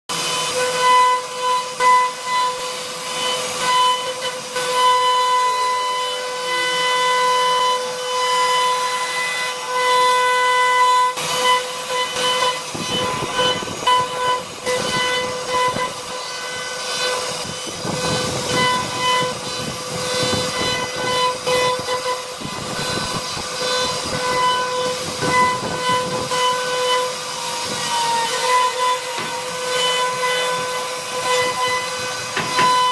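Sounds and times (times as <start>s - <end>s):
router bit cutting wood: 0.1s - 32.9s
router spindle whine: 0.1s - 32.9s.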